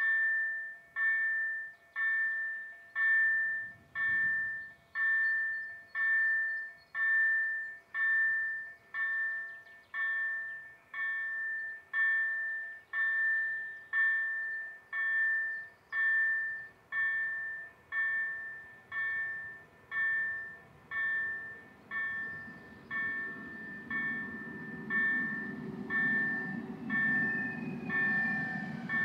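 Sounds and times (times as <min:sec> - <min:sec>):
level crossing warning bell: 0:00.0 - 0:29.0.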